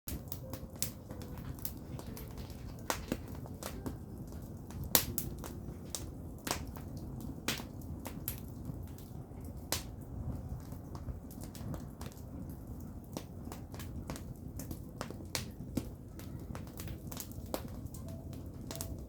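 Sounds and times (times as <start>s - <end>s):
firewood crackling and popping: 0.1s - 19.0s
low rumble of fire: 0.1s - 19.0s.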